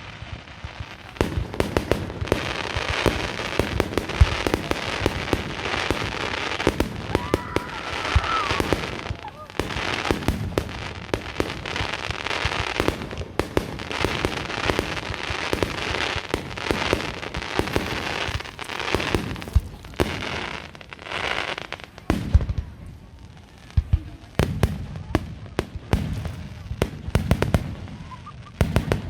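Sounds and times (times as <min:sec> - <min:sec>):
deep firework booms: 0:00.0 - 0:21.0, 0:22.0 - 0:22.9, 0:23.8 - 0:29.0
firework crackling: 0:00.0 - 0:29.0
firework cracks and bangs: 0:00.0 - 0:29.0.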